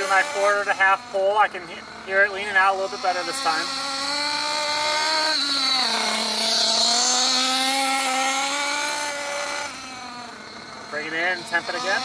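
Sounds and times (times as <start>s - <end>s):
model engine buzzing: 0.0s - 12.0s.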